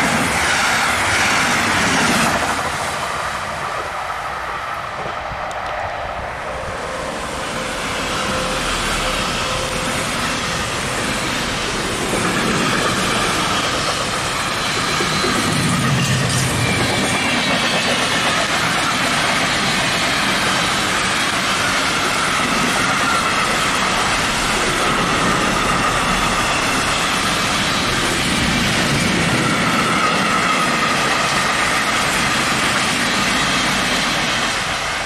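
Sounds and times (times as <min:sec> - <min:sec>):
steel train wheels rolling on rails: 0:00.0 - 0:35.0.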